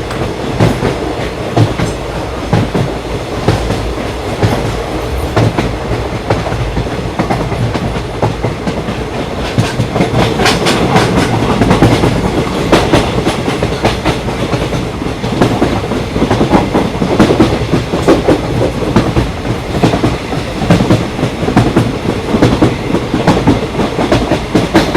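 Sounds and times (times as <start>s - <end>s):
train wheels clattering on bridge: 0.0s - 24.9s.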